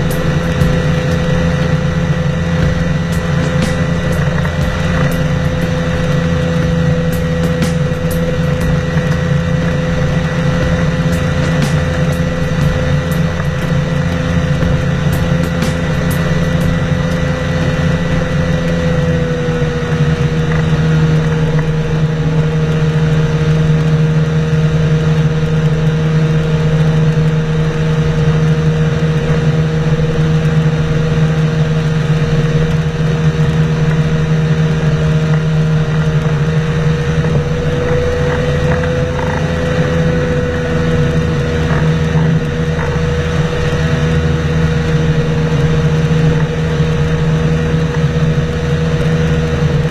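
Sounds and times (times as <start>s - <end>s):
engine droning steadily: 0.0s - 49.9s.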